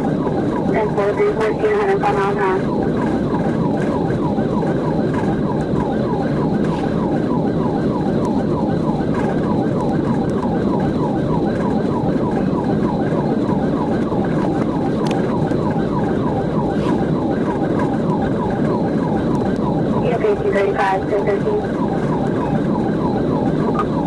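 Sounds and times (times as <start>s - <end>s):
police siren yelping: 0.0s - 24.0s.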